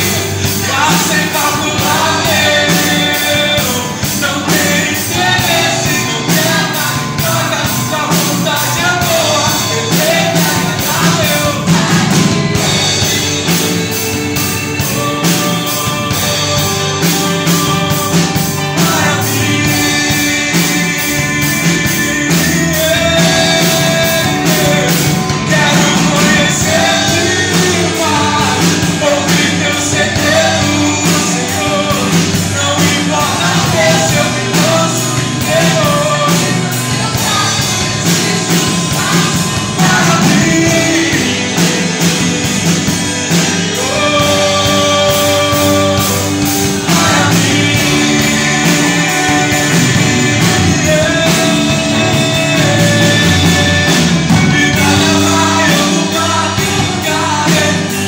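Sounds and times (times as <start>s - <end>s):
live band playing: 0.0s - 58.0s
man singing into a microphone: 0.0s - 58.0s.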